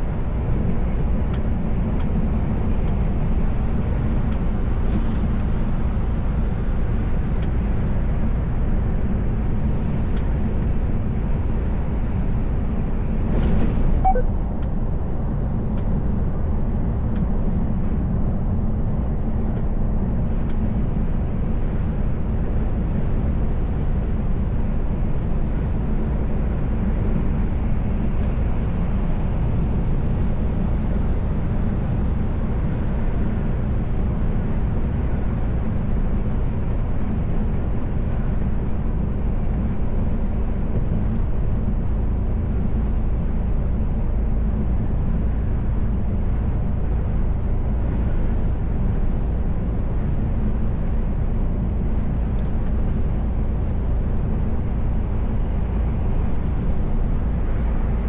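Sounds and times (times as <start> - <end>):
truck engine drone: 0.0 - 58.0.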